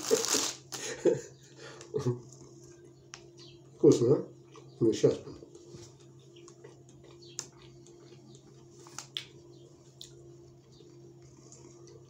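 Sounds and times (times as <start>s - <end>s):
steady low hum: 0.0s - 12.0s
man chewing cake: 0.1s - 12.0s.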